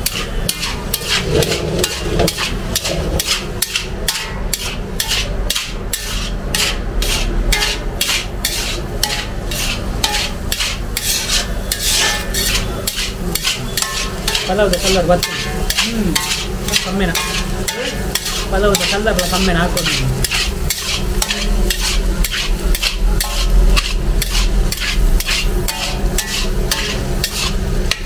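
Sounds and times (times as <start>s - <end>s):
metal spatula scraping iron pan: 0.0s - 28.0s.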